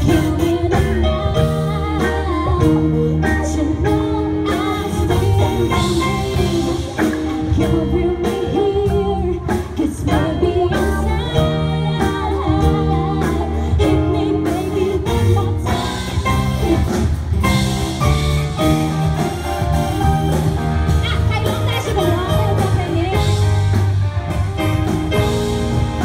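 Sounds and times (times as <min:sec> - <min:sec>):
bass guitar: 0:00.0 - 0:26.0
drum kit: 0:00.0 - 0:26.0
electric guitar: 0:00.0 - 0:26.0
keyboard: 0:00.0 - 0:26.0.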